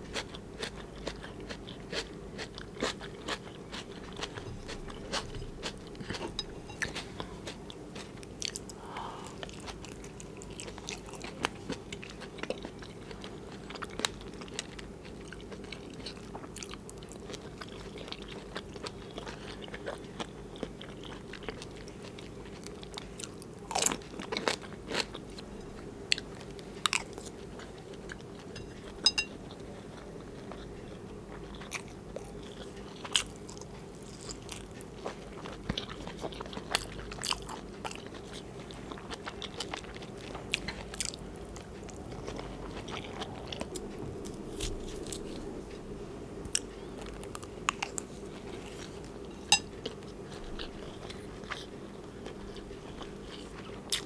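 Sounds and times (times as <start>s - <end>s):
close chewing and biting: 0.0s - 45.9s, 46.5s - 54.0s.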